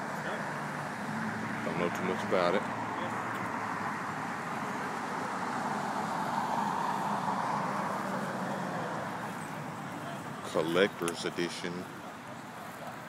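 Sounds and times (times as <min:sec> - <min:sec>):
road traffic noise: 0:00.0 - 0:13.0
vehicle passing: 0:00.0 - 0:13.0.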